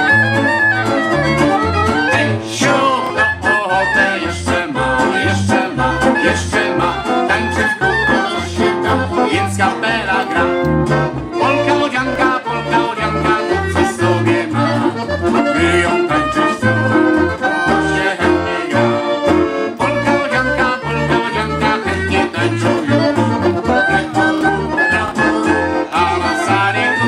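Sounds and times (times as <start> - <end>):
folk band playing polka: 0.0 - 27.0.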